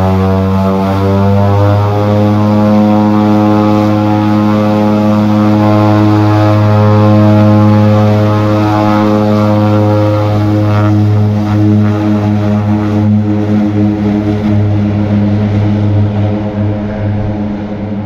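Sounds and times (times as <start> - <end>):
loud propeller drone: 0.0 - 18.0.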